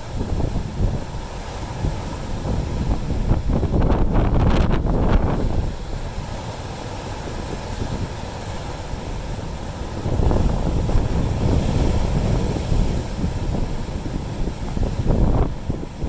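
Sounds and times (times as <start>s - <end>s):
sea waves washing onto rocks: 0.0s - 16.0s
wind buffeting microphone: 0.0s - 16.0s.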